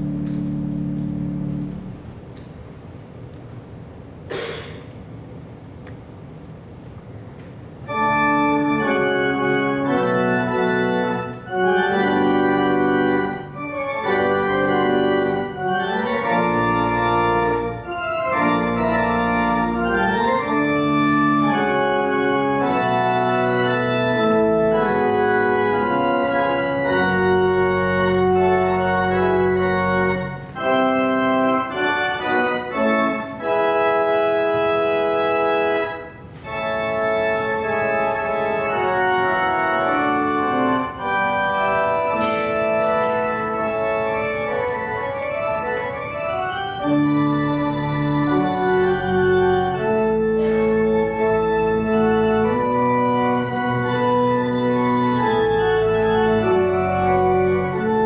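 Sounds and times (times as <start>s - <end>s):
pipe organ playing chords: 0.0s - 2.5s, 7.8s - 58.0s.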